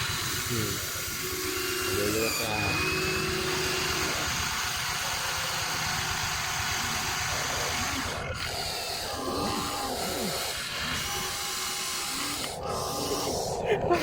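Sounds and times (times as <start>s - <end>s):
electric motors whirring: 0.0s - 14.0s
rapid ratcheting buzz: 0.0s - 14.0s.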